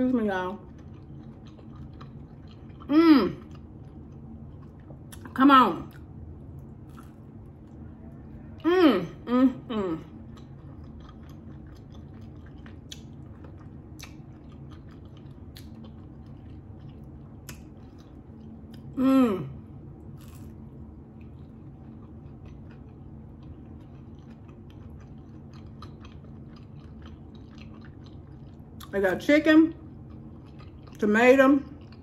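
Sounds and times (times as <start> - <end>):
person chewing food: 0.6 - 8.6, 10.0 - 19.0, 19.7 - 28.9, 29.8 - 31.0, 31.7 - 32.0.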